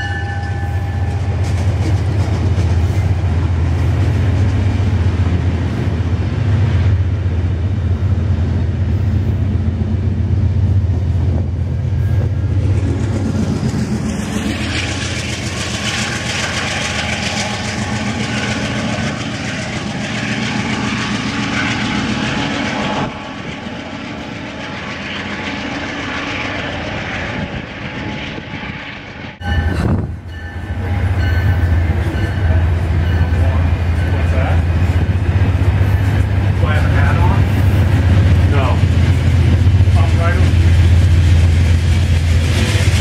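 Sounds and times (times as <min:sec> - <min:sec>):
diesel locomotive running under power: 0:00.0 - 0:43.0
low diesel drone: 0:00.0 - 0:43.0
passenger coaches rolling past: 0:00.0 - 0:43.0.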